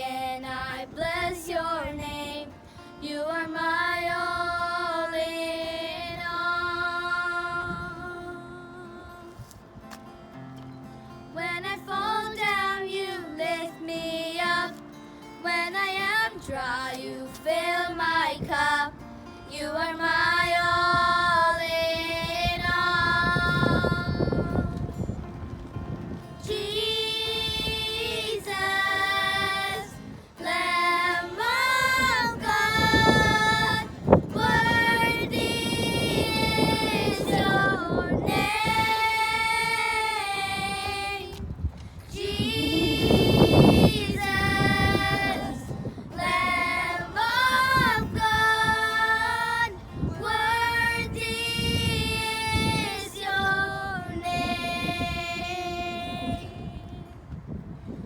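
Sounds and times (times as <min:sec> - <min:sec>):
woman singing worship song: 0:00.0 - 0:09.4, 0:11.4 - 0:14.8, 0:15.4 - 0:24.9, 0:26.4 - 0:41.5, 0:42.1 - 0:57.1.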